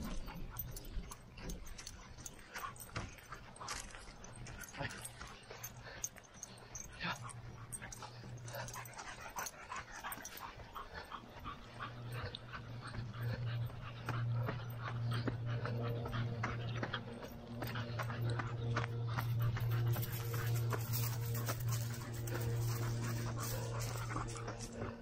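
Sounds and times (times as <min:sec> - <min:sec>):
low hum: 0:00.0 - 0:25.0
panting breath: 0:00.0 - 0:25.0
running footsteps on dirt: 0:00.0 - 0:25.0.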